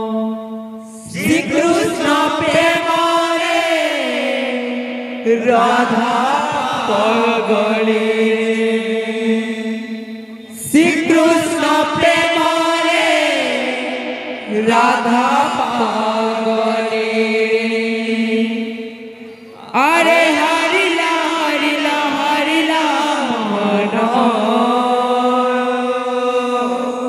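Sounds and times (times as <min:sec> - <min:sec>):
men singing devotional song: 0:00.0 - 0:27.0.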